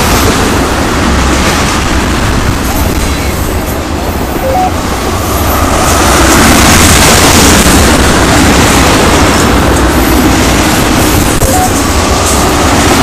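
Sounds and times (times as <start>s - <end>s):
steel wheels running on rails: 0.0s - 13.0s.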